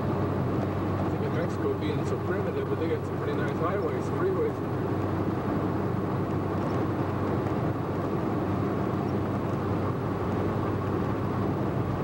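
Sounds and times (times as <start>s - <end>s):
constant low hum: 0.0s - 12.0s
vehicle road and engine noise: 0.0s - 12.0s.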